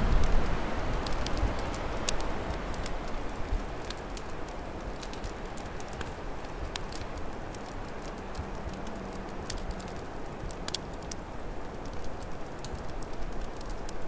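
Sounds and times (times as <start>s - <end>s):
low rumble of wind: 0.0s - 14.0s
wood fire crackling and popping: 0.0s - 14.0s.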